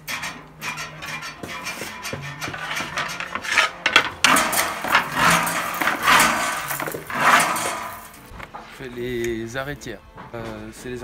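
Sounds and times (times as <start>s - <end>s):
slates clinking and scraping: 0.0s - 8.9s.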